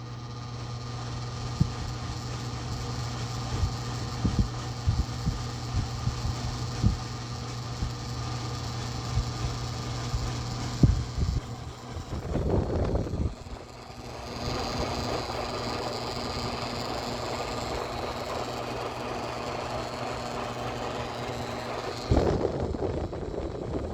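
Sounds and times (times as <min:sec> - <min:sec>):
air conditioner humming: 0:00.0 - 0:23.9.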